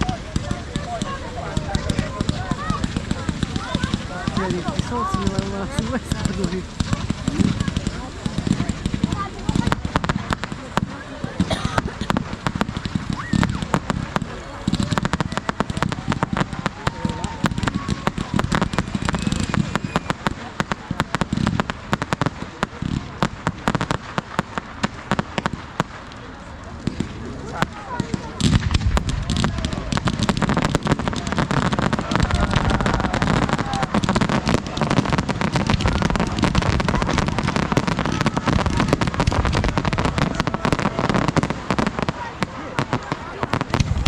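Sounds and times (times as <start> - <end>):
fireworks banging: 0.0 - 44.0
voices: 0.0 - 44.0.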